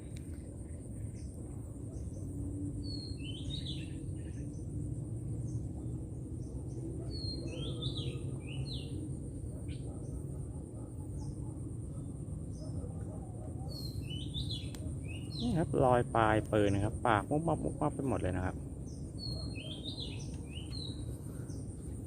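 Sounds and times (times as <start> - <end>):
low outdoor rumble: 0.0 - 22.0
songbird chirping: 0.1 - 4.7, 5.4 - 10.4, 11.1 - 22.0.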